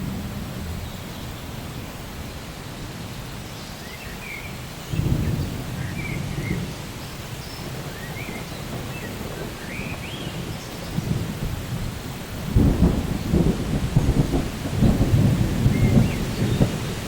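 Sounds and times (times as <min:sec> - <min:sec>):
thunder rumble: 0:00.0 - 0:03.4, 0:04.9 - 0:17.0
steady rain: 0:00.0 - 0:17.0.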